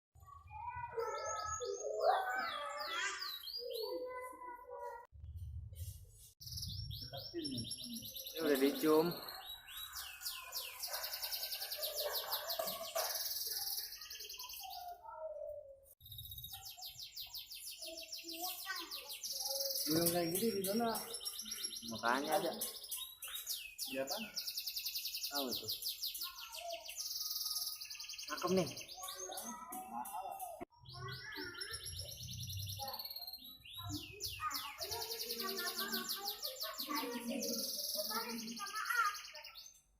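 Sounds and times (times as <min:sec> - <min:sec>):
canary singing: 0:06.4 - 0:39.9.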